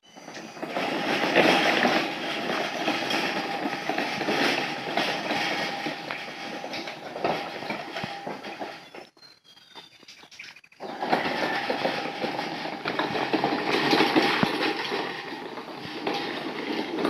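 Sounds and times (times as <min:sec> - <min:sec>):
metal gate rolling and rattling: 0:00.0 - 0:10.2, 0:10.8 - 0:17.0.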